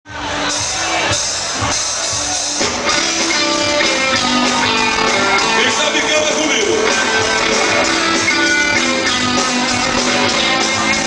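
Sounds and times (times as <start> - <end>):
band music with strummed guitar: 0.1 - 11.0.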